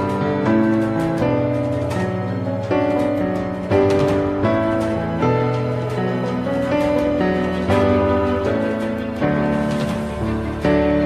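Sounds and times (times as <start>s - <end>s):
background music chords: 0.0s - 11.0s.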